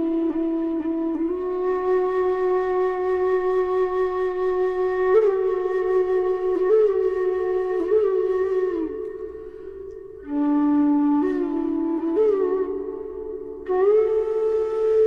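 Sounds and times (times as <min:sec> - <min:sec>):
flute music: 0:00.0 - 0:15.0.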